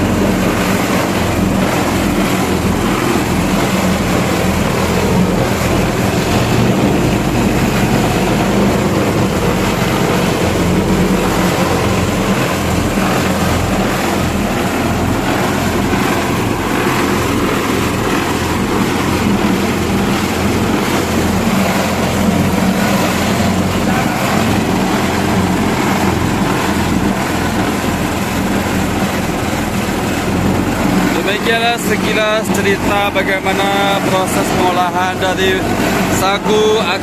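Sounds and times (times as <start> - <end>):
small engine humming: 0.0 - 37.0.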